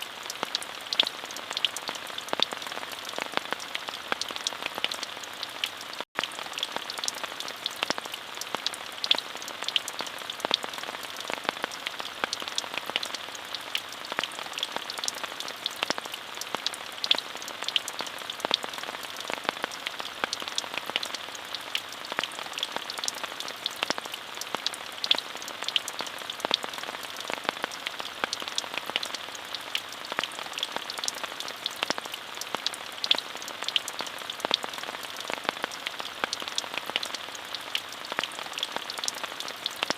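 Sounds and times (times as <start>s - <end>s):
raindrops ticking on hard surface: 0.0s - 39.9s.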